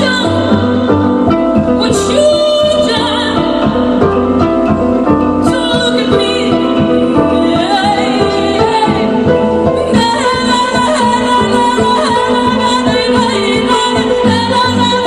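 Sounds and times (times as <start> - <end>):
woman singing: 0.0 - 4.4, 5.4 - 15.0
electric harp music: 0.0 - 15.0.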